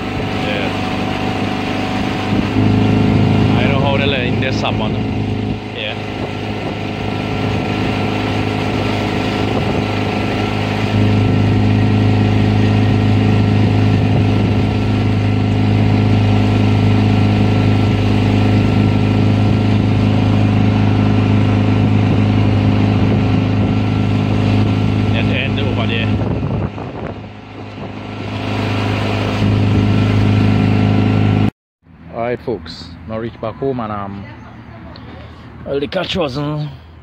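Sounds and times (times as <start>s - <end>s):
boat engine running: 0.0s - 35.7s.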